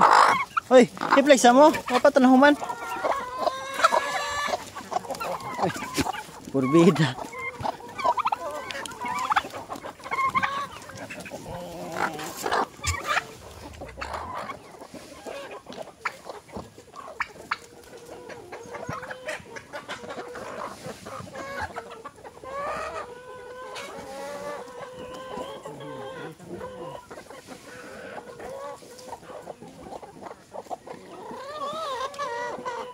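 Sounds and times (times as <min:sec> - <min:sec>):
chickens and roosters clucking: 0:00.0 - 0:32.9.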